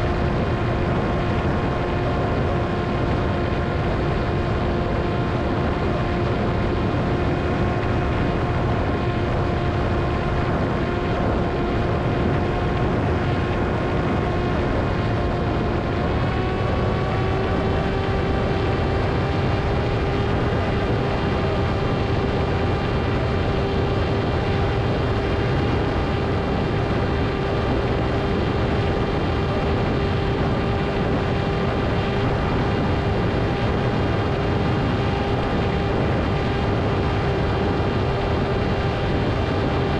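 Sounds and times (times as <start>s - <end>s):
electric motor and propeller humming: 0.0s - 39.9s.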